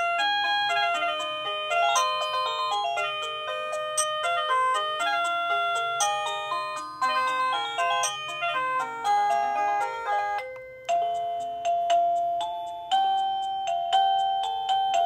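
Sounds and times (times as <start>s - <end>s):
doorbell chime melody: 0.0s - 15.0s.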